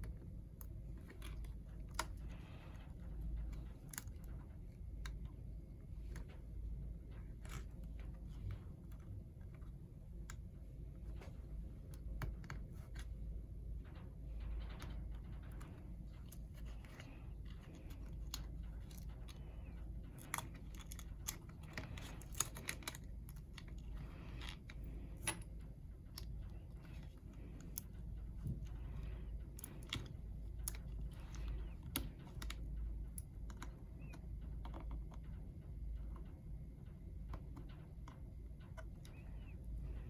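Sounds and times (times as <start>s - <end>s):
light clicks and taps: 0.0s - 40.0s
low steady hum: 0.0s - 40.0s.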